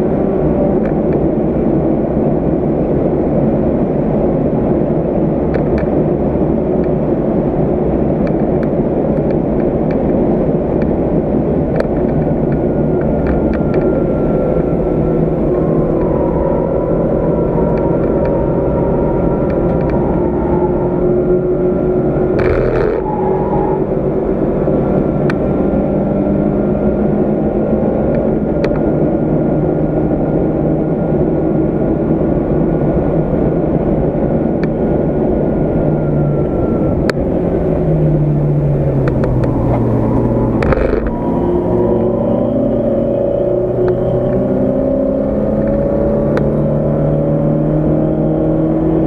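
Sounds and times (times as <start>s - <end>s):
car engine running hard: 0.0s - 49.0s
tyre and road noise: 0.0s - 49.0s.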